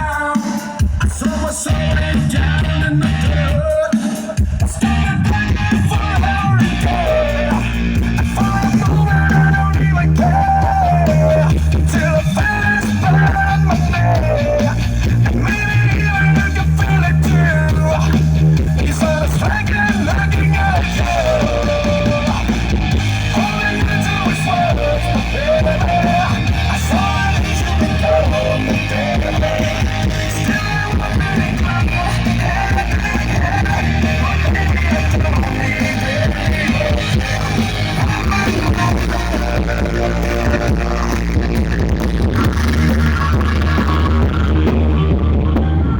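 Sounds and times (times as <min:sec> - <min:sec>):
loud rock music with heavy bass: 0:00.0 - 0:45.9.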